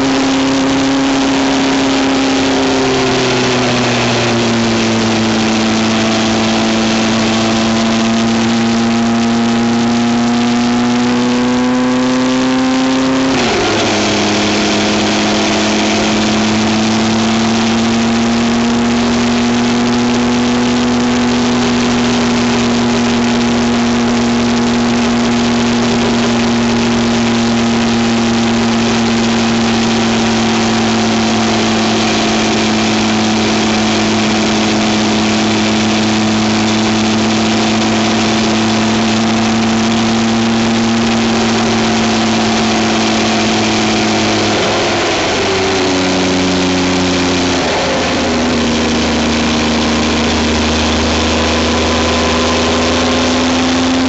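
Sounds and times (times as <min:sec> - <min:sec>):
road noise: 0:00.0 - 0:54.0
vehicle engine running: 0:00.0 - 0:54.0.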